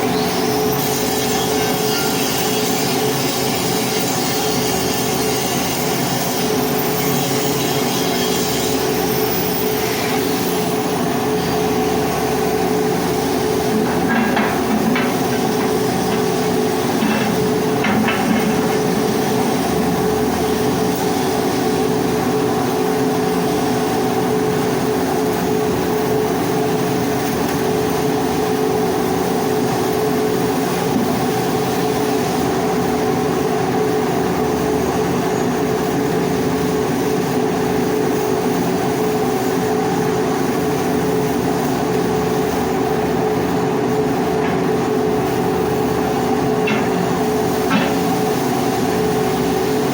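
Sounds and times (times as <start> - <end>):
steady machine hum: 0.0 - 49.9.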